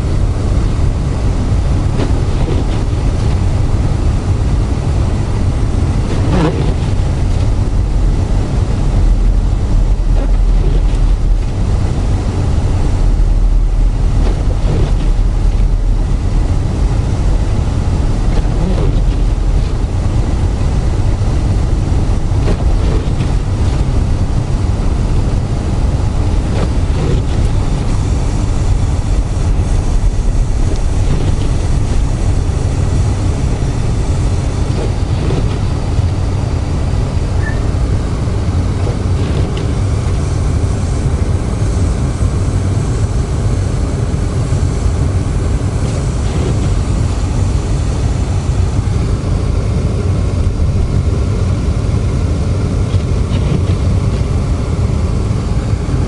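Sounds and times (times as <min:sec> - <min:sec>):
car engine and tyres rumbling: 0:00.0 - 0:56.0
windshield wipers sweeping: 0:00.1 - 0:41.3, 0:44.3 - 0:49.0, 0:52.8 - 0:54.3.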